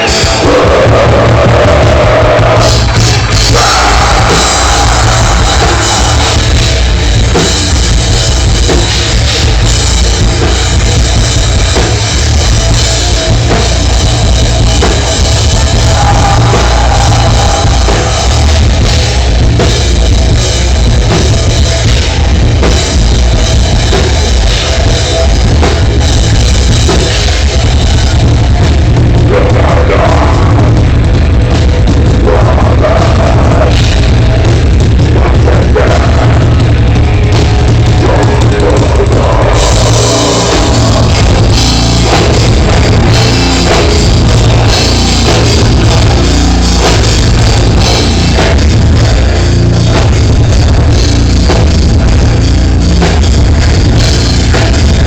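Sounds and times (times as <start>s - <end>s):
driving drum kit: 0.0s - 55.0s
rock band music: 0.0s - 55.0s.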